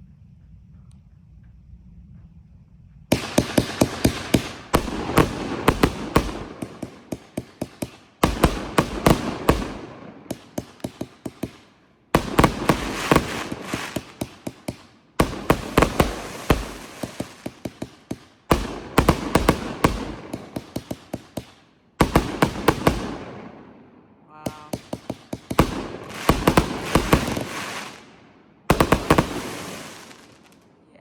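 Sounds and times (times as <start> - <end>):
firework crackling: 3.1 - 23.4, 24.4 - 31.0
firework bangs: 3.1 - 23.8, 24.4 - 30.7.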